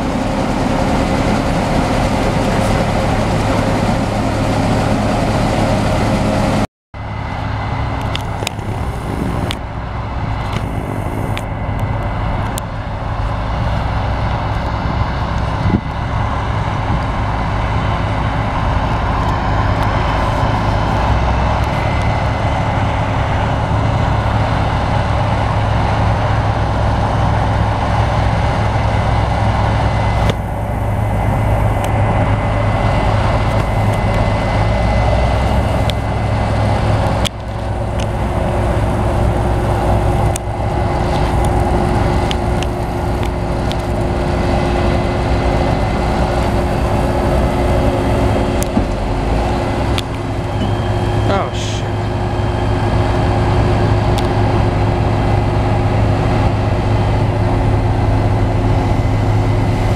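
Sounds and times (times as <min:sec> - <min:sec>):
diesel engines rumbling under load: 0:00.0 - 0:59.9.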